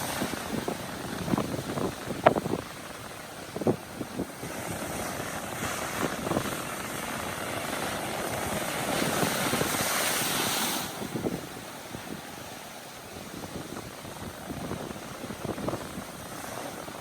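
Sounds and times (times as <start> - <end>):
ocean waves against rock: 0.0 - 17.0.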